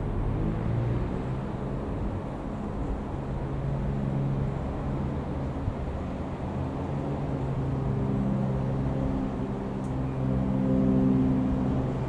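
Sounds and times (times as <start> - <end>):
propeller aircraft droning overhead: 0.0 - 12.0.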